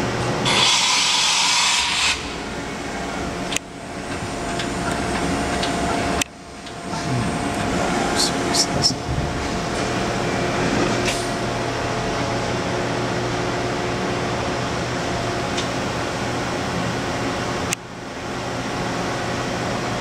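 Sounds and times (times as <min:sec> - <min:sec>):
machine hum and fan whir: 0:00.0 - 0:20.0.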